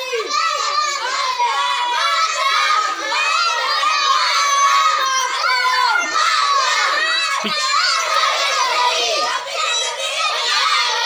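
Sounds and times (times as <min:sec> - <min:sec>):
children shouting together: 0:00.0 - 0:11.0.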